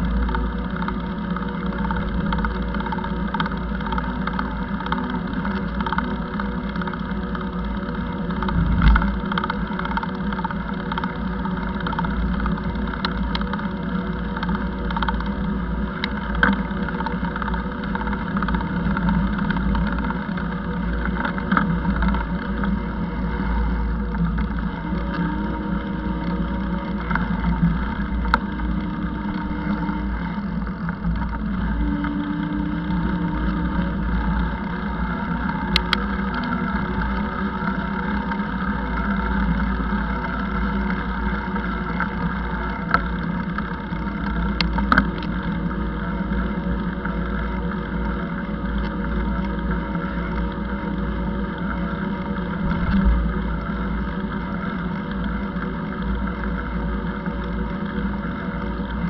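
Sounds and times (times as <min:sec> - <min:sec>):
wheels rumbling on pavement: 0:00.0 - 0:59.0
wind: 0:00.0 - 0:59.0.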